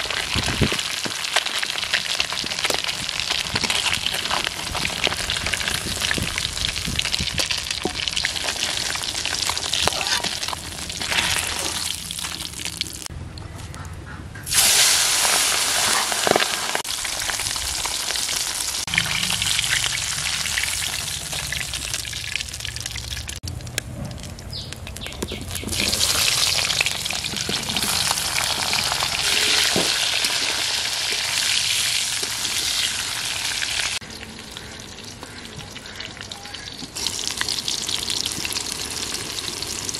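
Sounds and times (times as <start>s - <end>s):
fish sizzling in hot oil: 0.0s - 13.1s, 14.5s - 23.6s, 25.0s - 35.1s, 36.6s - 39.9s.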